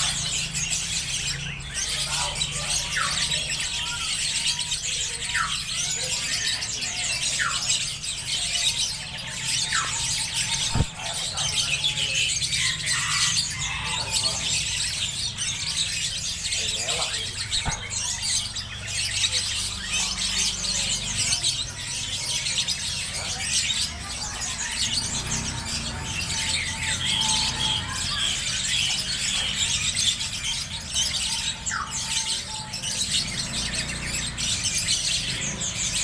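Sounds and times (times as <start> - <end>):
small birds chattering: 0.0 - 36.0.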